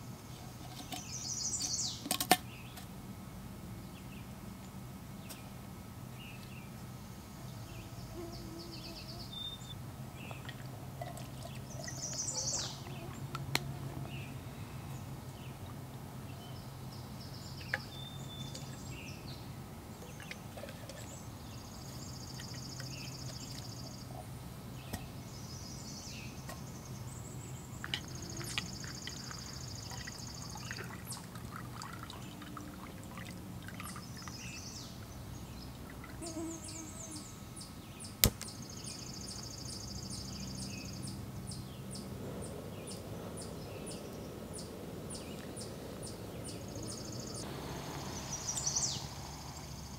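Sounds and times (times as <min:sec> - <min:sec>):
small birds trilling: 0:00.0 - 0:02.8, 0:06.2 - 0:49.9
steady low hum: 0:00.0 - 0:49.9.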